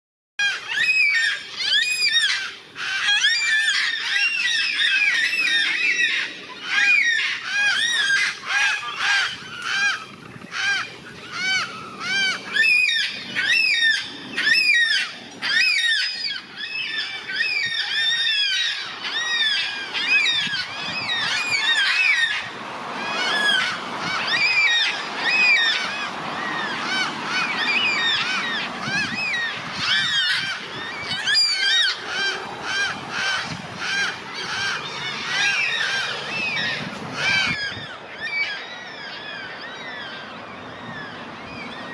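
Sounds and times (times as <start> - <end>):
cockatoos wailing calls: 0.4 - 41.9.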